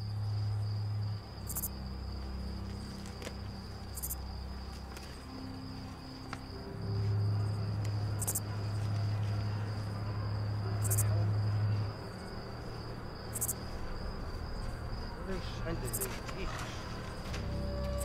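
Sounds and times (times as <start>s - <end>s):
insect high trill: 0.0s - 4.6s, 5.2s - 8.7s, 9.7s - 18.0s
low steady drone: 0.0s - 18.0s
very high insect chirp: 0.0s - 18.0s.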